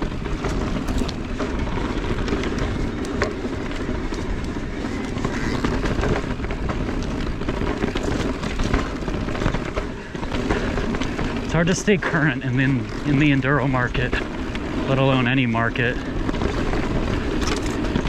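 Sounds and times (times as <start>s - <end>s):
bike clicks and clatter: 0.0s - 18.0s
bike tyre noise: 0.0s - 18.0s.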